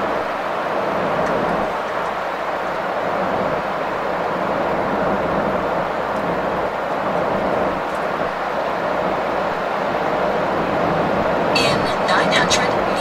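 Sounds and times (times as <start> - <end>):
truck cruising road and engine drone: 0.0 - 13.0.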